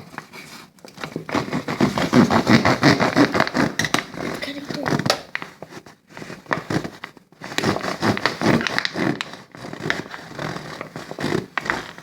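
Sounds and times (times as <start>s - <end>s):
knife sawing plastic bottle: 0.0s - 12.0s.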